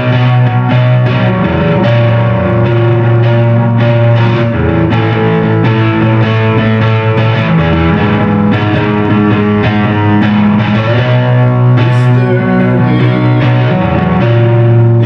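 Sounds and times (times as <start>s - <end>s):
electric guitar playing rock: 0.0s - 15.0s.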